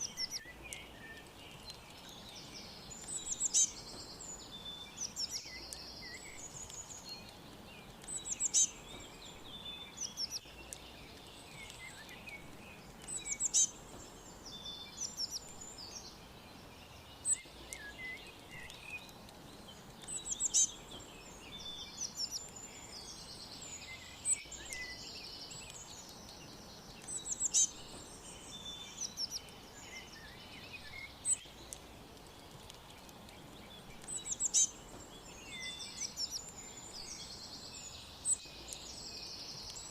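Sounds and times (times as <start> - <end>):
faint background hiss: 0.0 - 39.9
small birds chirping: 0.0 - 39.9.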